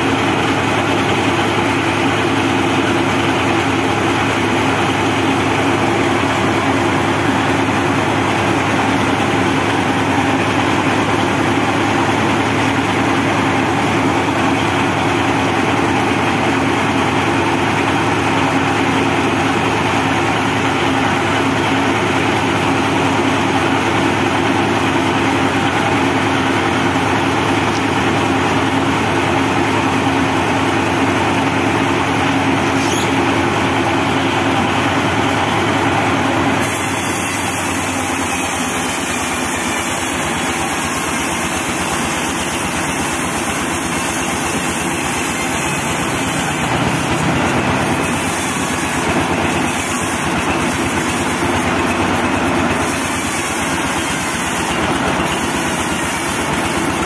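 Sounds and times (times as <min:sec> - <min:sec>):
band sawmill humming: 0:00.0 - 0:57.0.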